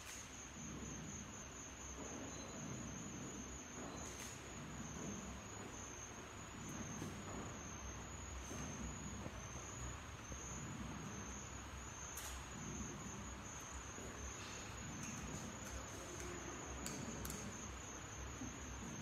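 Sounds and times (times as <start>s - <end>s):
insect trill: 0.0s - 19.0s.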